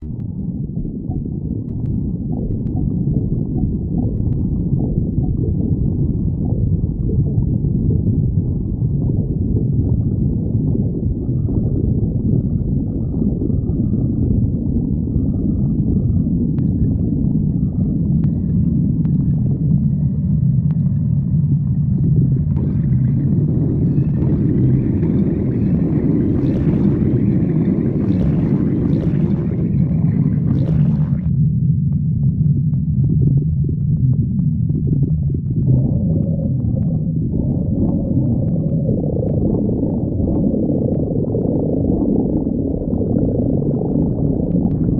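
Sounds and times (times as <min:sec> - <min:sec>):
stomach growling: 0:00.0 - 0:44.9.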